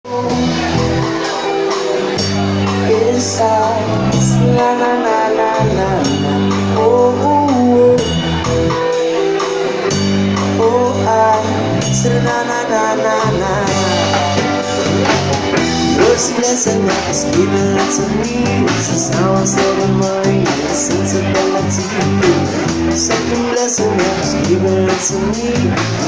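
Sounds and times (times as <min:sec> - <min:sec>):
drum kit beat: 0:00.0 - 0:26.0
electric guitar: 0:00.0 - 0:26.0.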